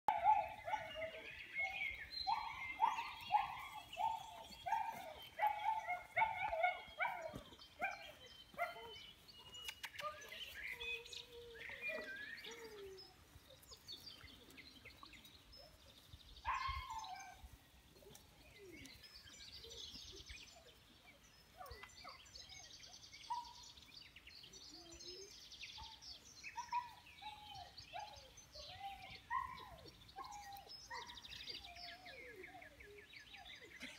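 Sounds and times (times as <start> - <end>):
birds singing and chirping: 0.1 - 33.9.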